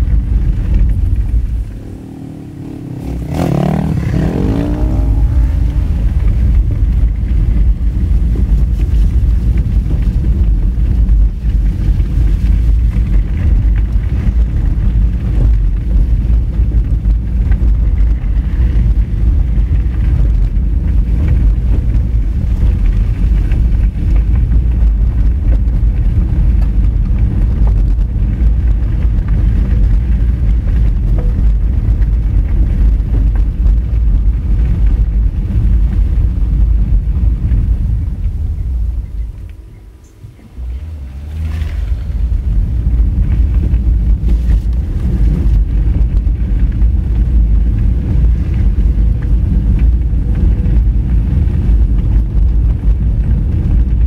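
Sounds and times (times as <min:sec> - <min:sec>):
car engine running: 0:00.0 - 0:54.0
tyres rumbling on gravel: 0:00.0 - 0:54.0.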